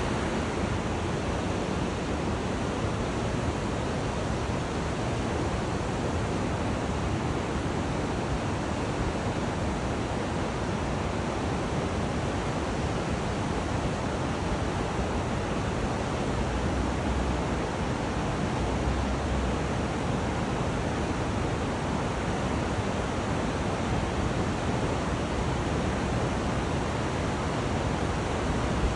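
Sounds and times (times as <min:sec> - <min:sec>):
river water rushing: 0:00.0 - 0:28.9.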